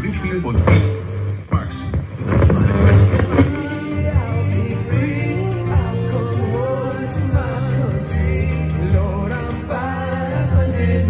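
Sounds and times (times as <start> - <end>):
song with singer on radio: 0.0 - 11.0
strong bass: 0.0 - 11.0.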